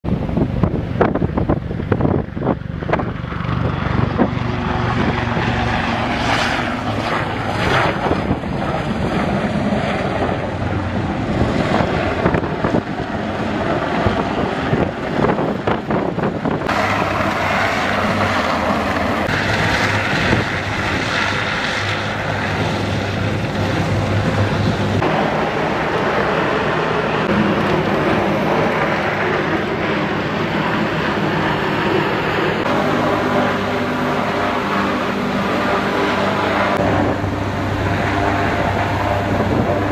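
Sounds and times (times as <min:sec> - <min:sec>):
helicopter rotor and engine: 0:00.0 - 0:39.9
inflatable boat engine: 0:00.0 - 0:39.9
wind on microphone: 0:00.0 - 0:39.9.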